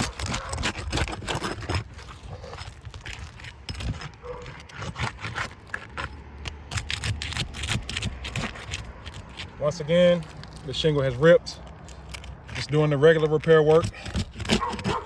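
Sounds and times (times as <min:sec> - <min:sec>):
roof shingle scraping and tearing: 0:00.0 - 0:15.0.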